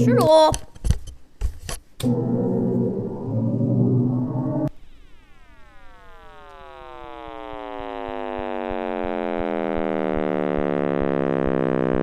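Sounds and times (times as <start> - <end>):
electronic tones gliding downward: 2.0 - 12.0.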